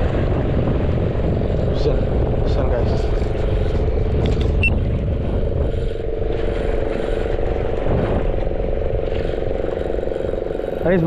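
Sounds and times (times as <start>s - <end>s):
low rumble: 0.0s - 11.0s
steady engine drone: 0.0s - 11.0s.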